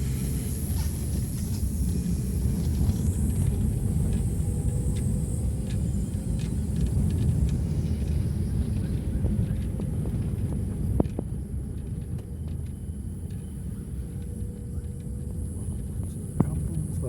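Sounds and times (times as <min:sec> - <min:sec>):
vehicle rumbling on rough road: 0:00.0 - 0:17.0.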